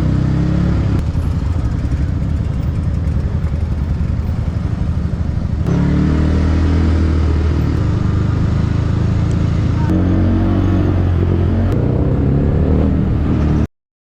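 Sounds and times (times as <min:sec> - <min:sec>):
motorcycle engine riding on road: 0:00.0 - 0:13.7.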